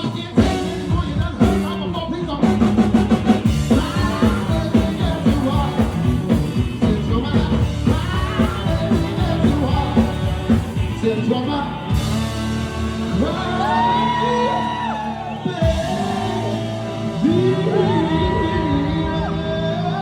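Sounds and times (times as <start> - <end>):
person singing: 0.0 - 12.2, 13.0 - 20.0
drums: 0.0 - 20.0
rock and roll band playing: 0.0 - 20.0.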